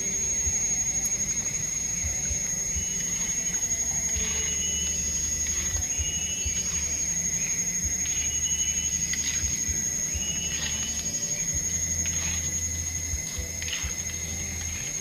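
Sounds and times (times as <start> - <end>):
insects shrilling: 0.0 - 15.0
short insect chirps: 0.0 - 15.0.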